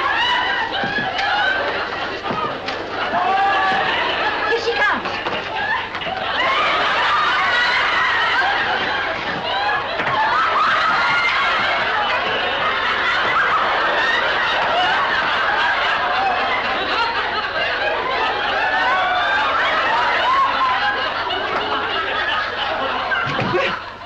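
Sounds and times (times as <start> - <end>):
audience laughing: 0.0 - 24.0.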